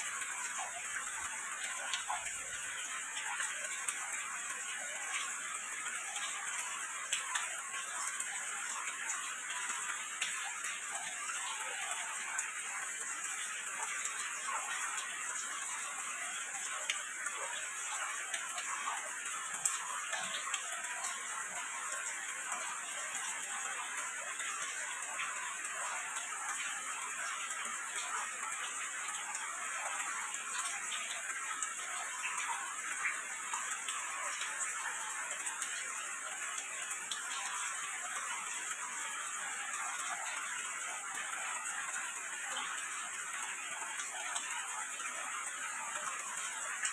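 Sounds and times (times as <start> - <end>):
rain pattering: 0.0 - 46.9.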